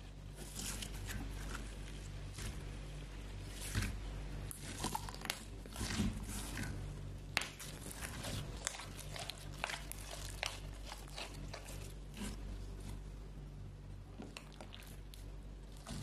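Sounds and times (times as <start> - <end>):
slime squelching: 0.0 - 13.4, 14.0 - 16.0.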